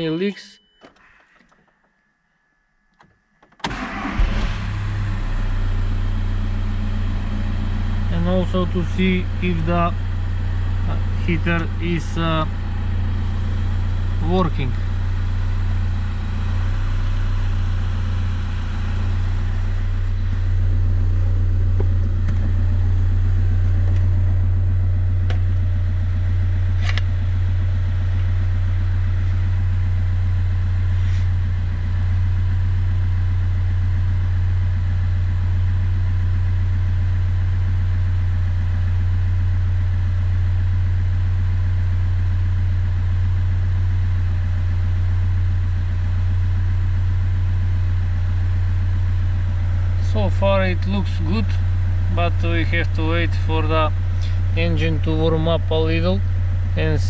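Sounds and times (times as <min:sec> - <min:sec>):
diesel engine idling: 0:03.7 - 0:57.0.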